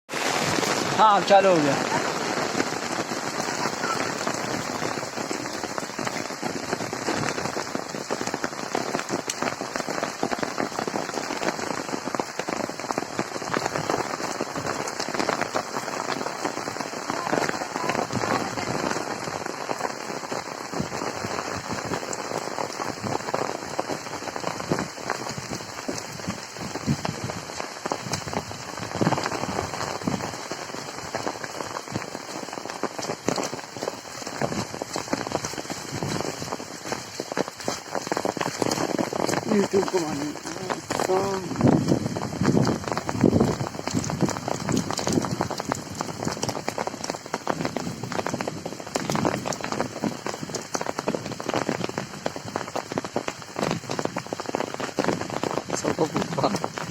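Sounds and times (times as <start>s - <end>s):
steady rain patter: 0.1s - 56.9s.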